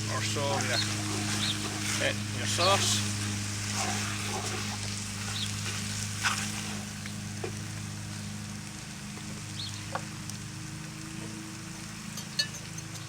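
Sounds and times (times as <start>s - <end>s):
food sizzling in a pot: 0.0s - 13.0s
steady low hum: 0.0s - 13.0s.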